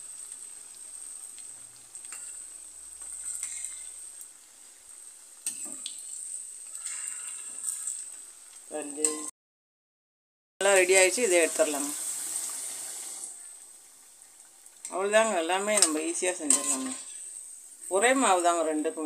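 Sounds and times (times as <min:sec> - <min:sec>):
dumplings sizzling in hot oil: 0:00.0 - 0:09.3, 0:10.6 - 0:19.0.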